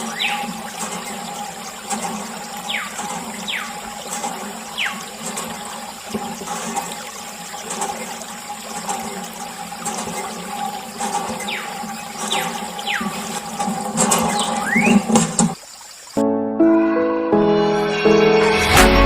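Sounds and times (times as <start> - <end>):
water gushing and splashing: 0.0 - 16.2.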